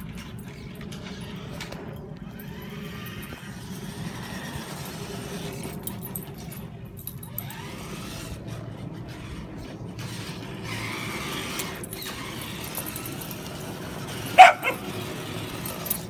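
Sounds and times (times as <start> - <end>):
toy truck motor rumbling: 0.0 - 16.0.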